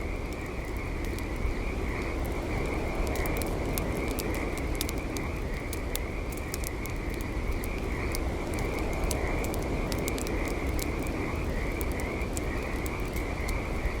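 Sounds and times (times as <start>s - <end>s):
campfire crackling and popping: 0.0s - 14.0s
night insect chorus trilling: 0.0s - 14.0s.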